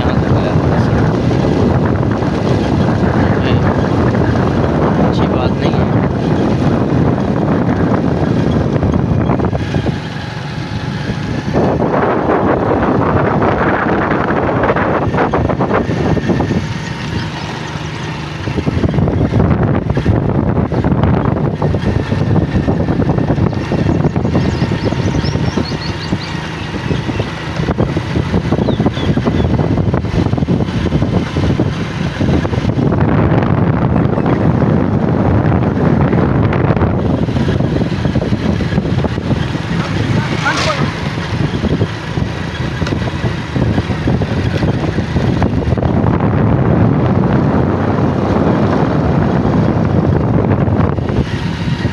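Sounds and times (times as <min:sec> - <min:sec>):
vehicle driving on road: 0:00.0 - 0:51.9
wind buffeting microphone: 0:00.0 - 0:51.9.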